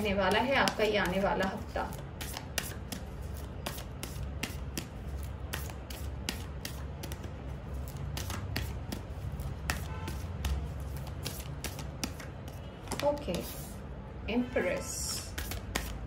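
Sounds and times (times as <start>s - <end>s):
cards being shuffled: 0.4s - 13.8s, 15.3s - 16.0s.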